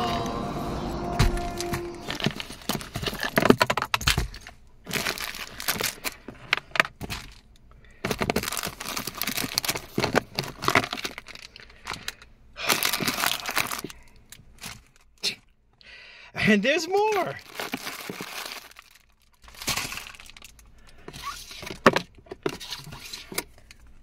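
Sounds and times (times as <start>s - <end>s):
items clattering in plastic bin: 1.2s - 15.0s, 17.0s - 23.8s.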